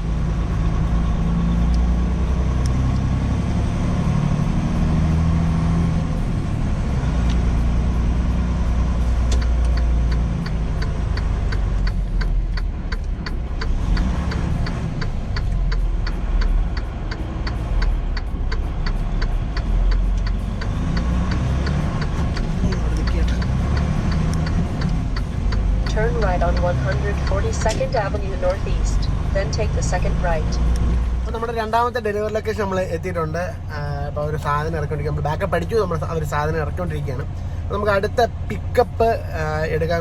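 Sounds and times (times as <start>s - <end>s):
truck engine running: 0.0s - 40.0s
turn signal ticking: 0.0s - 40.0s.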